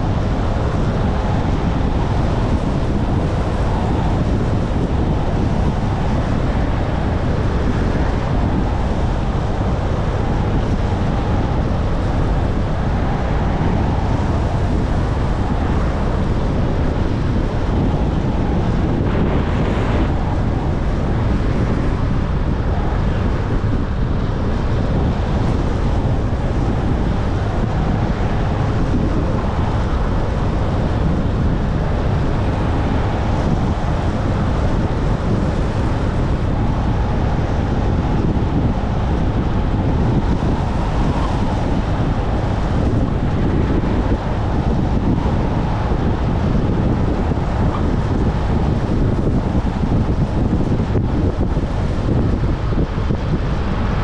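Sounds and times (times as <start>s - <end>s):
wind rumble on microphone: 0.0s - 54.0s.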